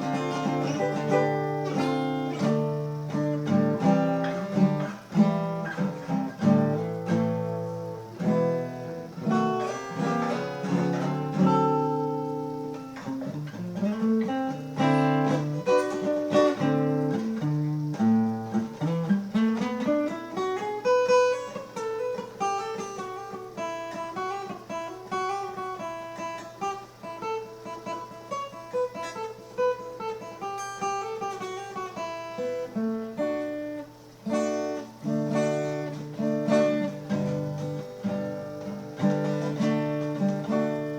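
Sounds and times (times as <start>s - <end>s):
acoustic guitar: 0.0s - 40.9s.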